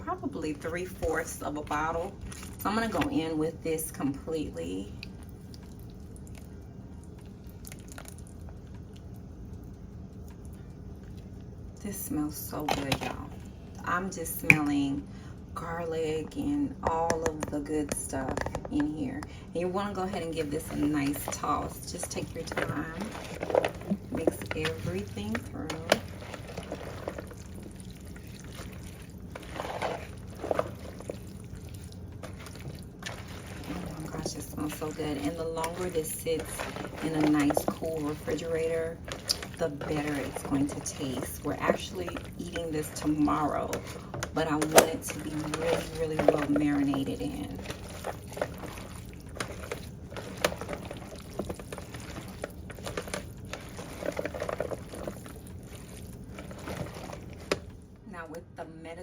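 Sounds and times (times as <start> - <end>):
low steady hum: 0.0 - 59.0
wet squishing mixing in bowl: 0.0 - 59.0.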